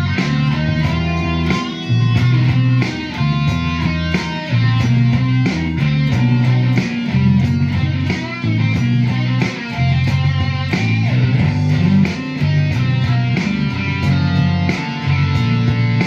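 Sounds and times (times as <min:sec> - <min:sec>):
electric guitar rock riff: 0:00.0 - 0:16.0.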